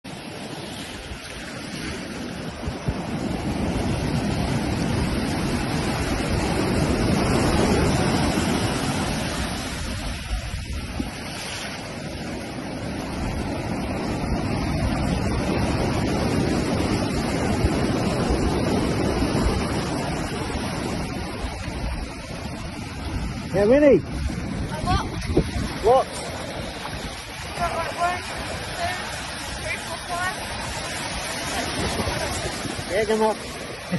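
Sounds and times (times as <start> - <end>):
surf breaking on beach: 0.0 - 33.9
wind rumbling on microphone: 0.1 - 33.9.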